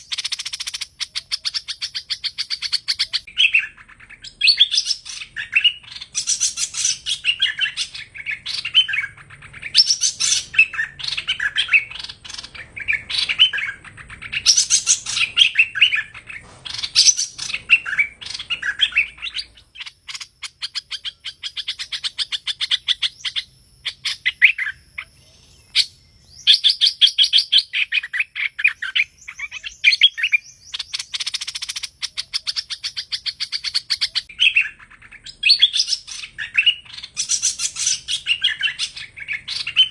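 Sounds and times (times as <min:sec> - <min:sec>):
bulbul song chirping: 0:00.0 - 0:39.9.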